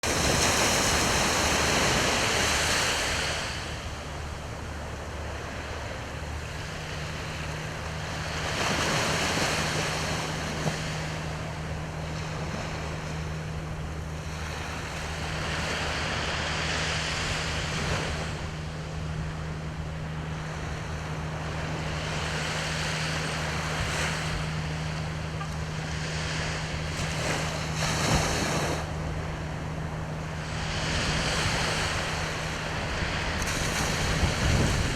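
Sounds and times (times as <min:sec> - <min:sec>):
sea waves breaking on shore: 0:00.0 - 0:34.9
steady low hum: 0:00.0 - 0:34.9.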